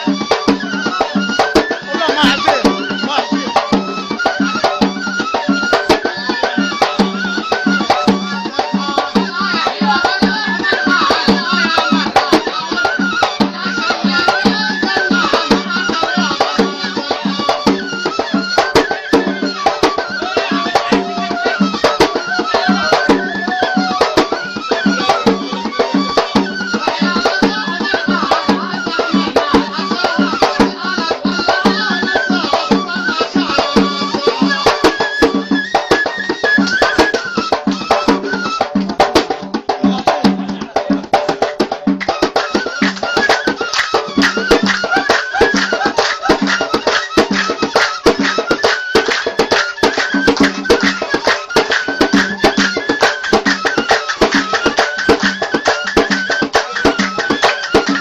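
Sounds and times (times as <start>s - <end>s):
drum beating a rhythm: 0.0s - 58.0s.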